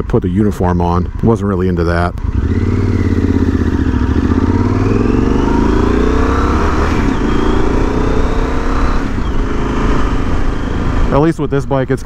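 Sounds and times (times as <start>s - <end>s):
motorcycle engine accelerating: 1.0s - 12.0s.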